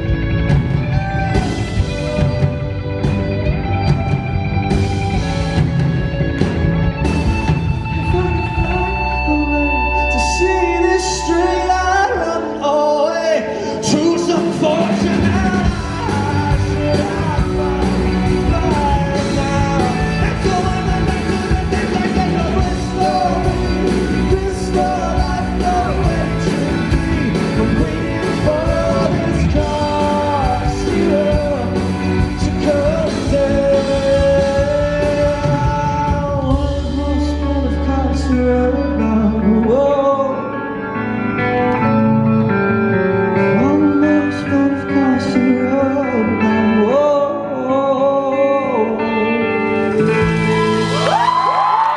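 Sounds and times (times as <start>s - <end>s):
live rock band: 0.0s - 51.9s
man singing lead vocals: 7.3s - 51.9s.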